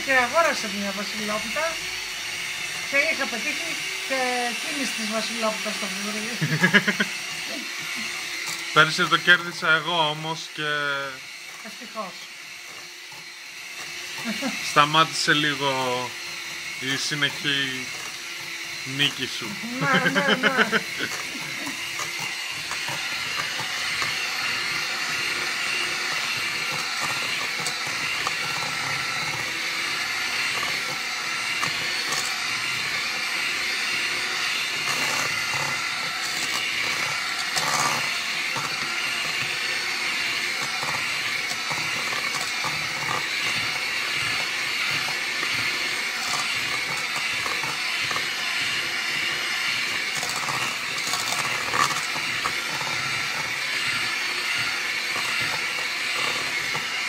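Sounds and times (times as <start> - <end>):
electric hand mixer running: 0.0 - 57.0.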